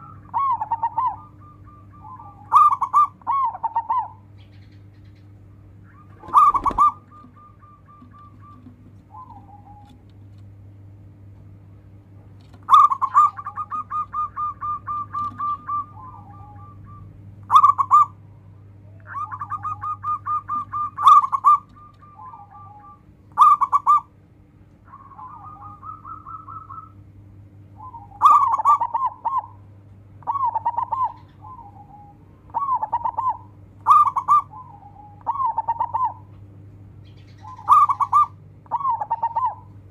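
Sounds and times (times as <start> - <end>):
dove cooing: 0.0 - 10.4, 12.5 - 24.1, 24.8 - 27.1, 27.7 - 36.4, 37.1 - 39.9
low steady hum: 0.0 - 39.9.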